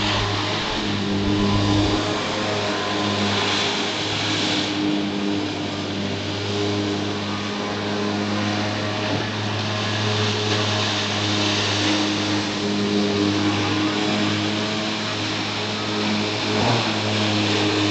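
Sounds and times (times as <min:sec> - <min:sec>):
jet ski engine running: 0:00.0 - 0:17.9.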